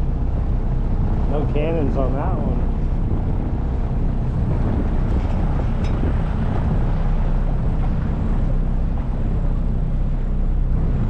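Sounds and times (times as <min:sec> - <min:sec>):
hull moving through water: 0:00.0 - 0:11.0
motorboat engine humming: 0:00.0 - 0:11.0.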